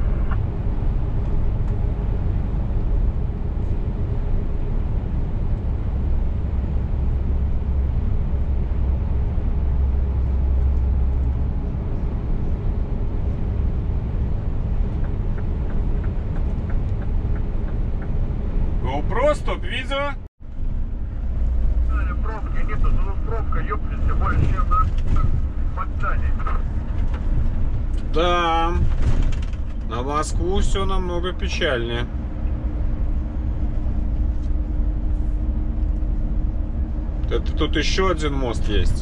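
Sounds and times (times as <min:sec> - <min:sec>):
diesel engine drone: 0:00.0 - 0:39.0
road noise inside truck cab: 0:00.0 - 0:39.0.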